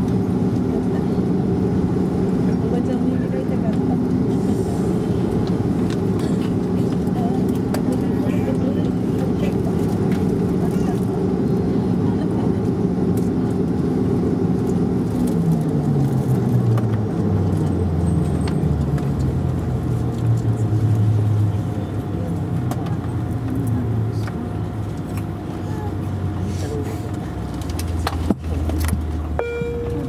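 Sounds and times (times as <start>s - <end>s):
turboprop engines humming in cabin: 0.0s - 30.0s.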